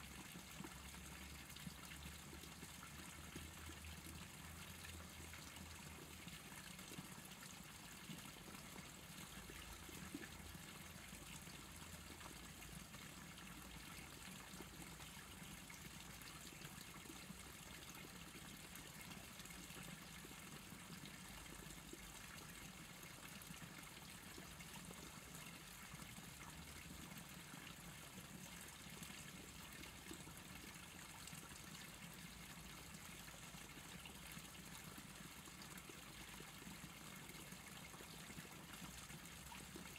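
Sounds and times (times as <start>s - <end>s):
faint stream trickle: 0.0s - 39.9s.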